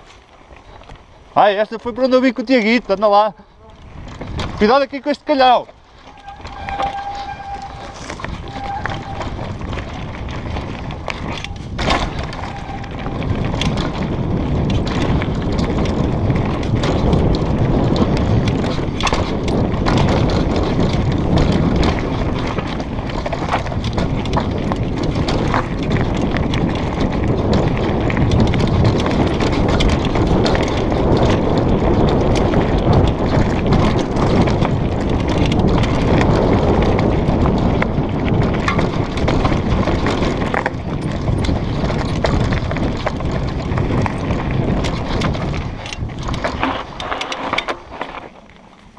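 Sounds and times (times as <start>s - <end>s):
bike rattling: 0.0s - 48.9s
bike tyres rumbling over dirt: 0.0s - 48.9s
wind noise on microphone: 0.0s - 48.9s.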